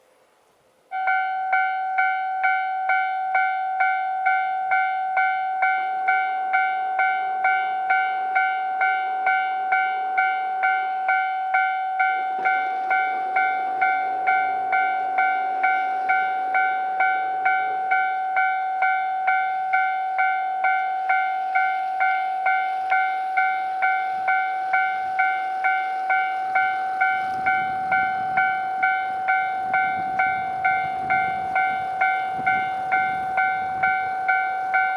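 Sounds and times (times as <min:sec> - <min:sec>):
low rumble of diesel train: 0:00.0 - 0:34.9
level crossing bell ringing: 0:01.0 - 0:34.9.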